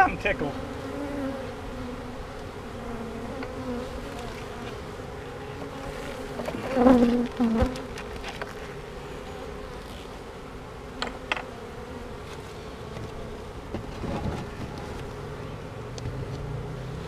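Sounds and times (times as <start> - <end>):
bees buzzing: 0.0 - 17.0
bees flying past: 0.0 - 17.0.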